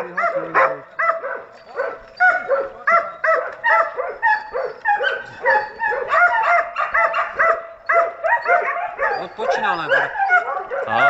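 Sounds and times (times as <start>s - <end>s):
dog yelping barks: 0.0s - 11.0s.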